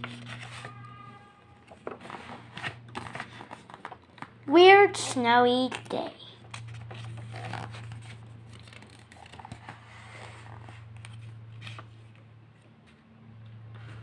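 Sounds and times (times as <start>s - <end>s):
book pages turning: 0.0s - 1.0s, 1.6s - 4.4s, 5.4s - 13.0s.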